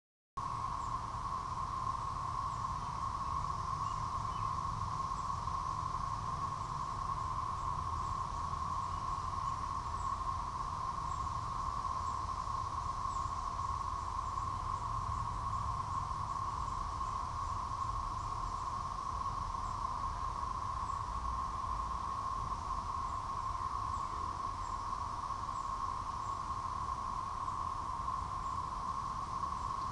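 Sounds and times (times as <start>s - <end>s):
cicadas droning: 0.4s - 29.9s.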